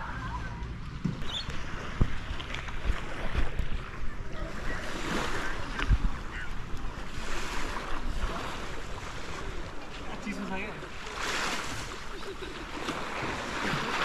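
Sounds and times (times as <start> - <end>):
waves washing ashore: 0.0 - 14.0.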